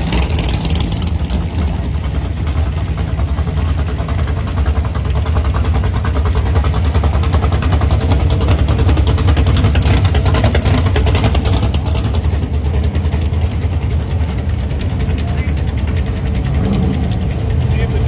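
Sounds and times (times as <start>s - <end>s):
hot rod engine running loud: 0.0s - 18.0s.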